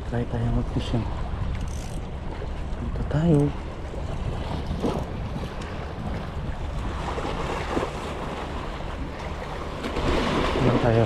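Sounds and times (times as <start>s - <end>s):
wind buffeting microphone: 0.0s - 11.0s
sea waves washing: 2.1s - 11.0s.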